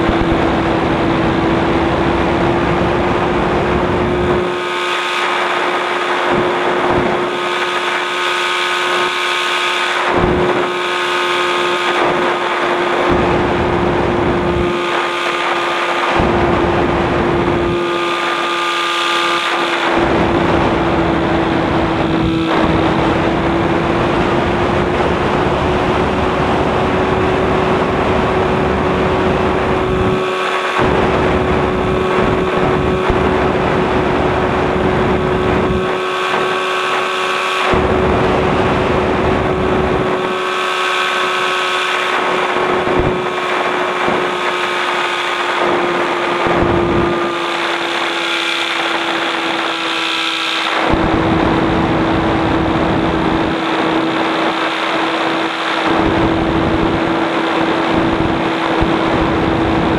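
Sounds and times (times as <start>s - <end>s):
light aircraft engine and propeller: 0.0s - 59.9s
wind rushing over microphone: 0.0s - 59.9s.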